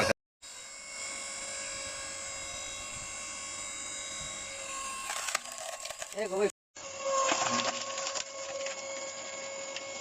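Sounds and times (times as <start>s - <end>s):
log splitter motor whining: 0.0s - 10.0s.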